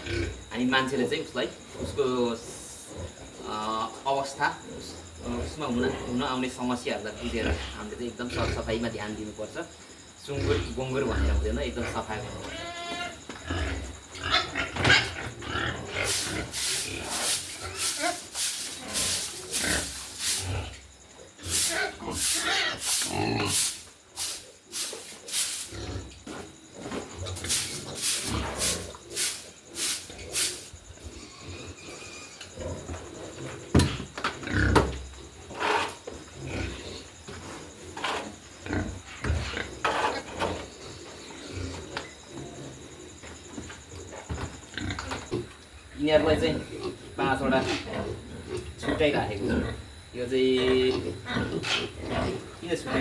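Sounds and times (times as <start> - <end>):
pigs grunting: 0.0 - 9.4, 10.2 - 53.0.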